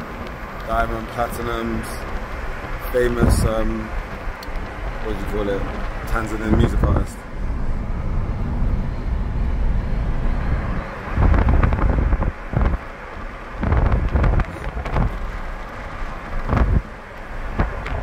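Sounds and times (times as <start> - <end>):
car driving rumble: 0.0 - 18.0
wind buffeting microphone: 0.0 - 18.0.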